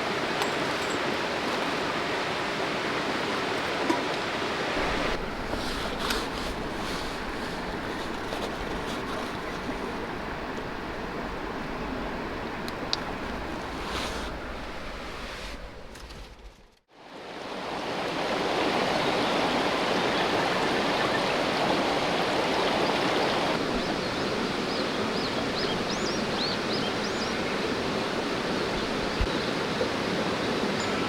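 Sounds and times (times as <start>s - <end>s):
river rushing: 0.0s - 15.2s, 16.9s - 31.0s.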